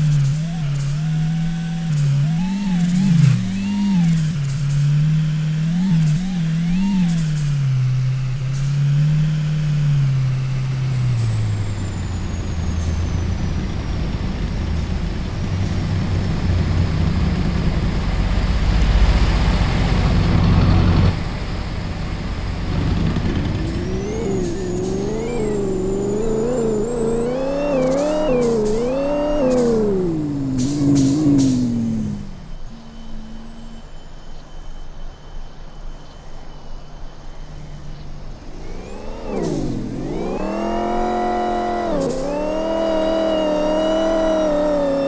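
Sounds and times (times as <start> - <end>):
truck engine running: 0.0 - 33.8, 38.2 - 45.0.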